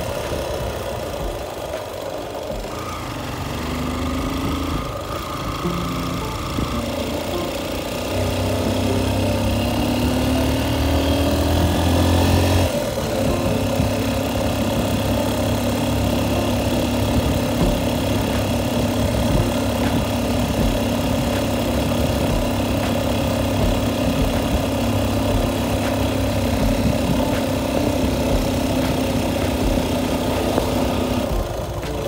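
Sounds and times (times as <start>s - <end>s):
road and air noise hiss: 0.0s - 32.0s
vehicle engine droning: 0.0s - 32.0s.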